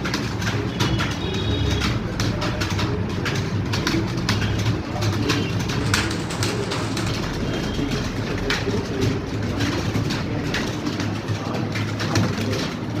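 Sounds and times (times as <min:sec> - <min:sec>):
keyboard keys clicking: 0:00.0 - 0:13.0.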